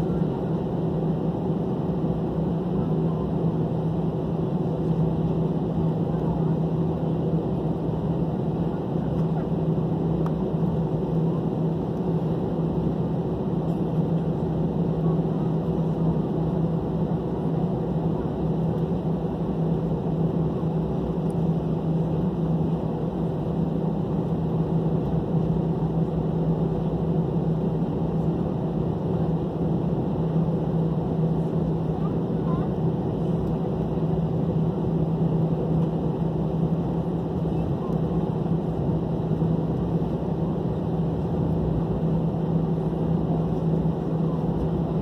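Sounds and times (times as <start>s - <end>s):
airplane cabin engine drone: 0.0s - 45.0s.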